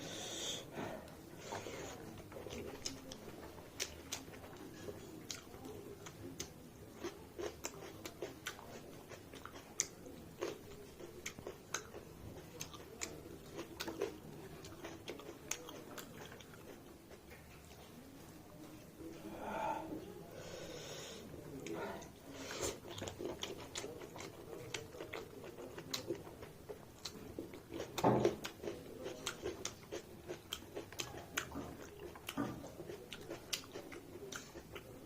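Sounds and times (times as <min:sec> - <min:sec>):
person chewing with wet smacks: 0:01.1 - 0:17.9, 0:21.4 - 0:35.0.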